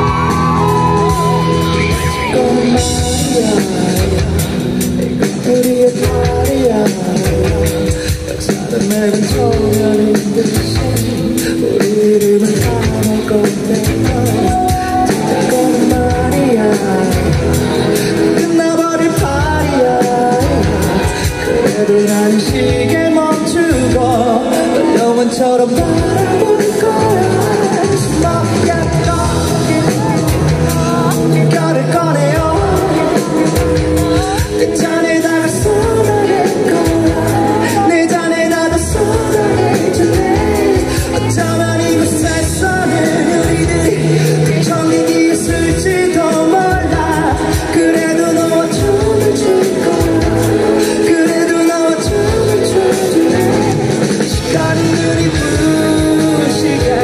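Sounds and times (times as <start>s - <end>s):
electric guitar: 0.0s - 57.0s
man singing into a microphone: 0.0s - 57.0s
rock band with drums: 0.0s - 57.0s
steady beat: 0.0s - 57.0s.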